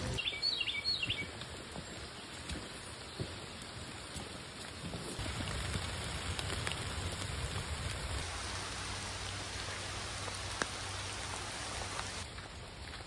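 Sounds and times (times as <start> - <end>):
rain falling on leaves: 0.0 - 13.0.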